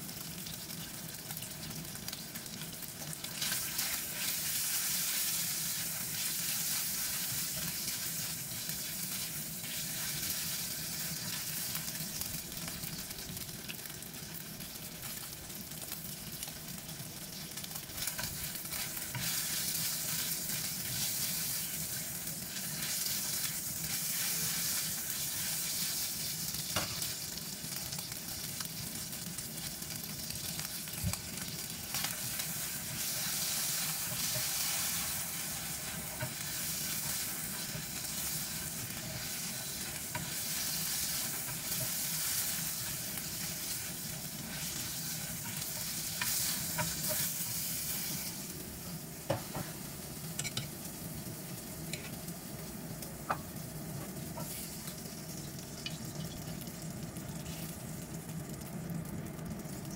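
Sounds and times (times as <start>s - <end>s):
meat sizzling in oil: 0.0s - 59.9s.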